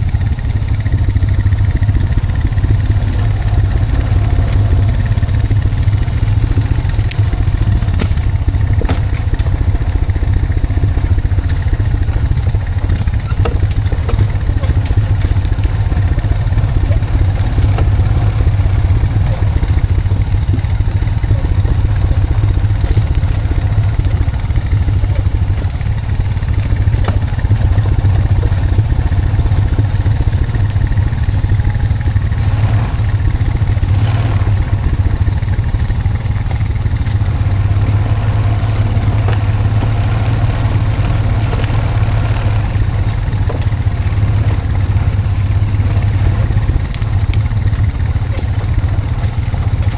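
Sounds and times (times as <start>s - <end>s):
atv engine running: 0.0s - 49.9s
knocks and rattles: 0.0s - 49.9s.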